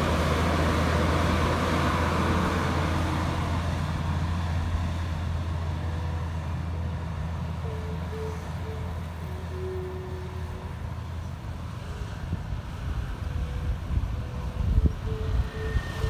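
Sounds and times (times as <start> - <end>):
truck diesel engine: 0.0 - 16.0.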